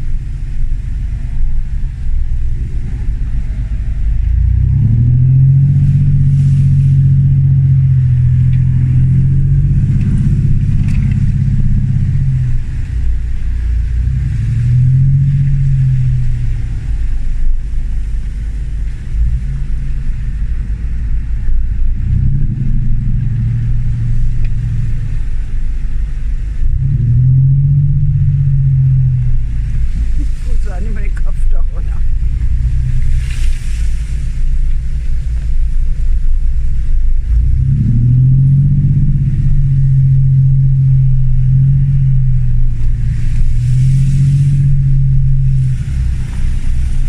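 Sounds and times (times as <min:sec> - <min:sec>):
diesel engine revving: 0:00.0 - 0:47.0.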